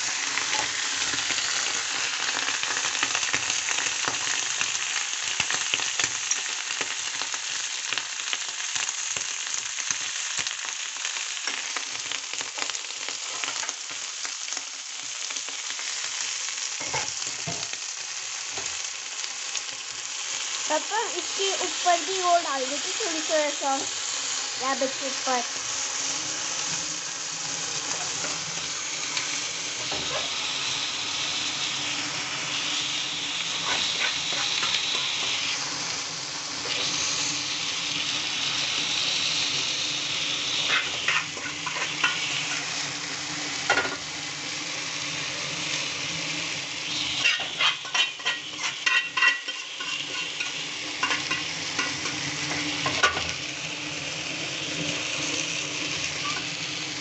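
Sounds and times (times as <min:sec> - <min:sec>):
food frying and sizzling: 0:00.0 - 0:57.0.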